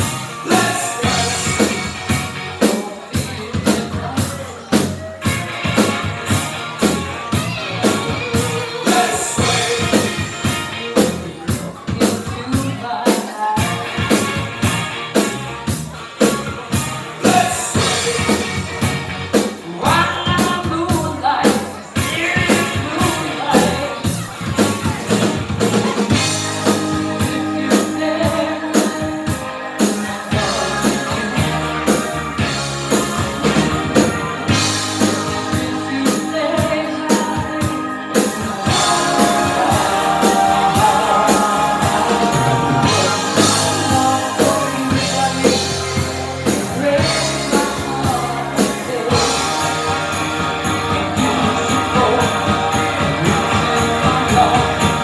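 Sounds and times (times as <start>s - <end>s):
drum kit: 0.0s - 55.0s
electric guitar and bass: 0.0s - 55.0s.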